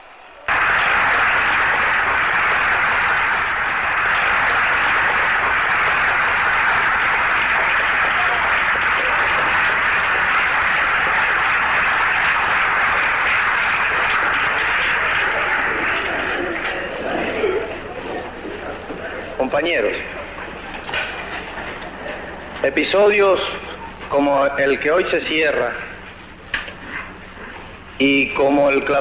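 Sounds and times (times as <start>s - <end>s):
large audience applauding: 0.0s - 29.0s.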